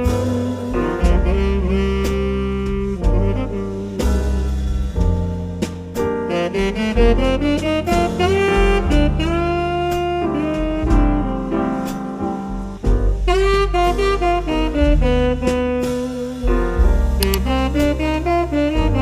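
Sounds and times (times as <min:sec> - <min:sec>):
saxophone melody: 0:00.0 - 0:05.0, 0:06.3 - 0:12.4, 0:13.1 - 0:19.0
steady bass line: 0:00.0 - 0:19.0.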